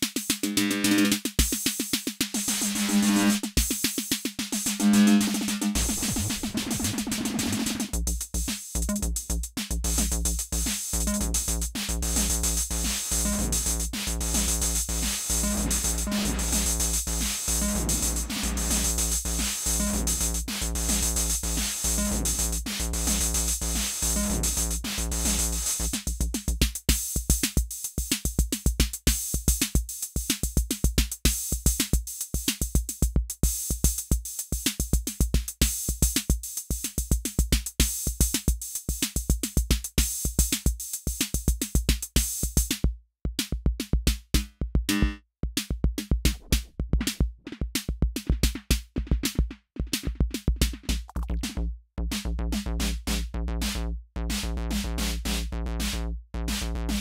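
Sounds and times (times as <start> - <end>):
drum machine kick and hi-hat: 0.0 - 57.0.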